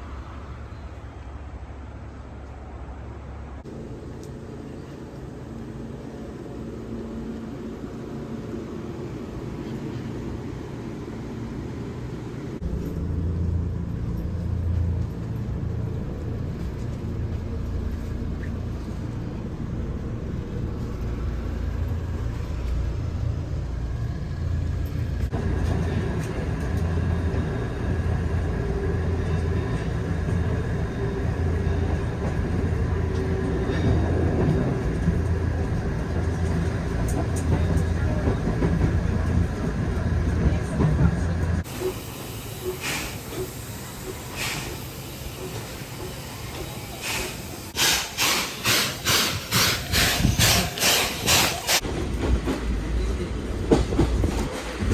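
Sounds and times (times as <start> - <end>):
train rumbling: 0.0 - 54.9.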